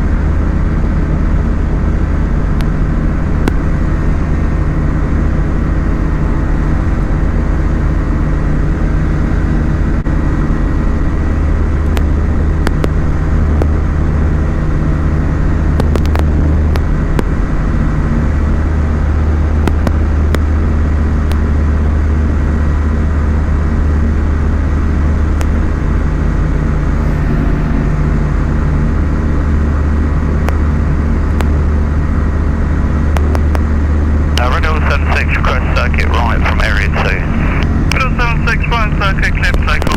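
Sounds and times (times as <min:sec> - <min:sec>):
light aeroplane engine drone: 0:00.0 - 0:39.9.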